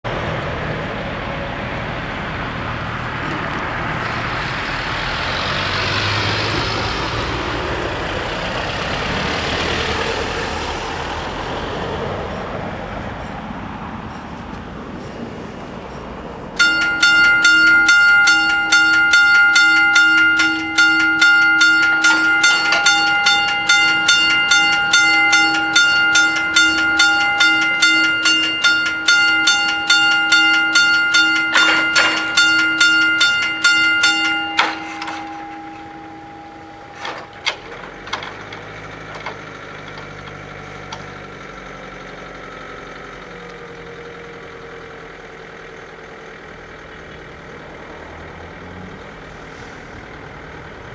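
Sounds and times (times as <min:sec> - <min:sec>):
vehicle engine idling: 0:00.1 - 0:50.9
level crossing warning bell: 0:00.9 - 0:10.5, 0:11.2 - 0:50.9.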